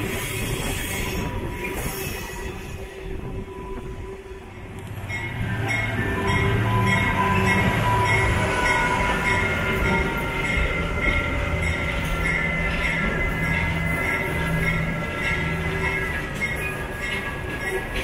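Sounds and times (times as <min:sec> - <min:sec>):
diesel locomotive droning: 0:00.0 - 0:18.0.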